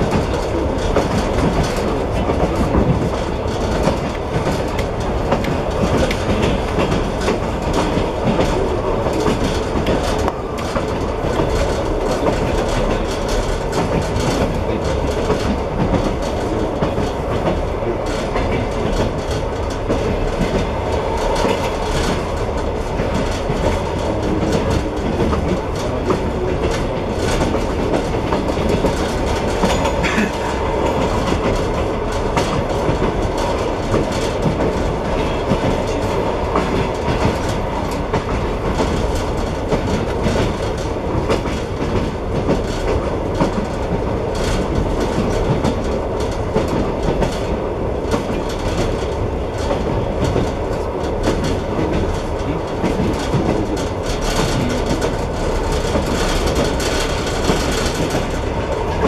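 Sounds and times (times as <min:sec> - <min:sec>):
train wheels rumbling on rails: 0:00.0 - 0:59.0
wheels clicking over track: 0:00.0 - 0:59.0.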